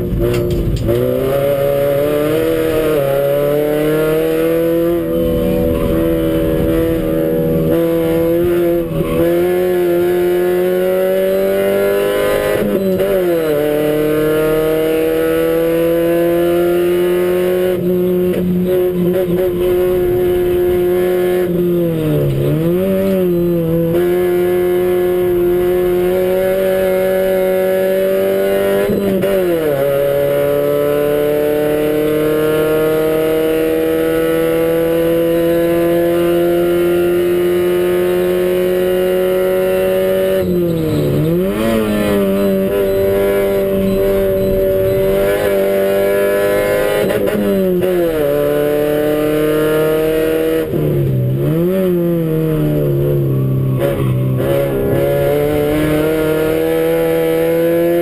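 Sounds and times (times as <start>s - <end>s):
race car engine from inside cabin: 0.0s - 58.0s.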